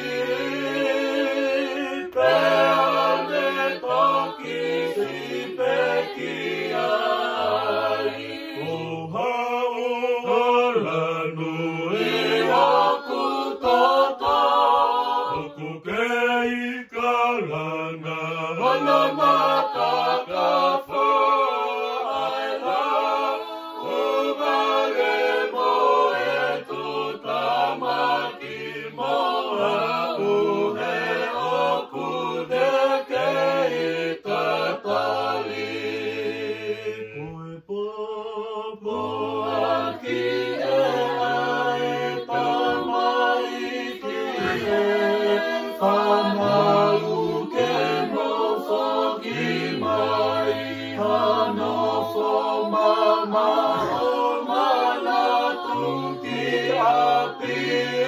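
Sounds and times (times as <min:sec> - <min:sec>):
unaccompanied choir singing a hymn: 0:00.0 - 0:58.0.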